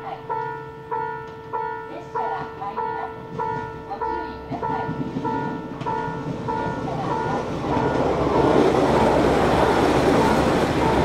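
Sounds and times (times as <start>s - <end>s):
diesel train engine: 0.0s - 11.0s
train wheels on rails: 0.2s - 11.0s.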